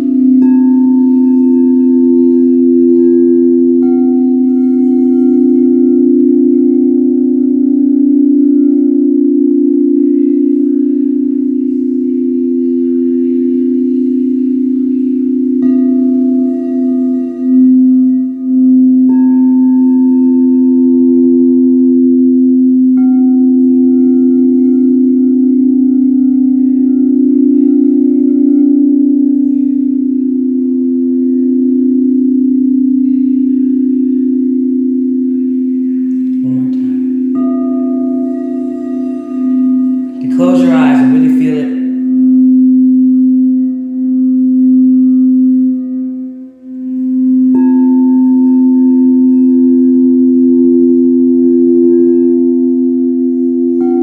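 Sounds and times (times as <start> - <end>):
crystal singing bowls ringing: 0.0 - 54.0
higher-pitched bowl tones: 0.0 - 54.0.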